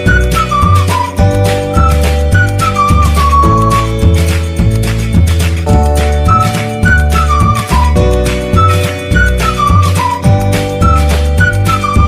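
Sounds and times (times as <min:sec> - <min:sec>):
flute-like melody: 0:00.0 - 0:04.8, 0:05.7 - 0:12.0
bright instrumental music: 0:00.0 - 0:12.0
steady bass line: 0:00.0 - 0:12.0.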